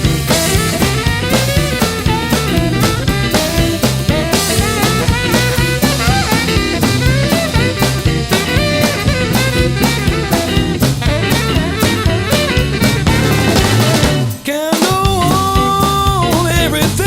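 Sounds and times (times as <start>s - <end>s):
drum kit swing beat: 0.0s - 17.0s
electric guitar: 0.0s - 17.0s
saxophone lead line: 0.0s - 17.0s
walking bass: 0.0s - 17.0s.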